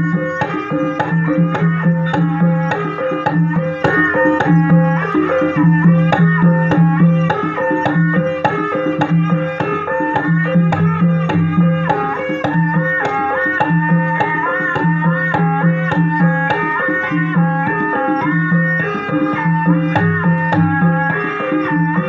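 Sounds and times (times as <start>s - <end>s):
hand drum strokes: 0.0s - 22.0s
melody of held notes: 0.0s - 22.0s.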